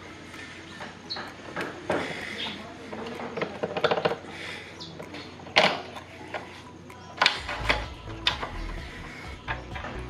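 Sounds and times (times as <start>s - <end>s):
metal axle clicking and clinking: 0.0s - 10.0s.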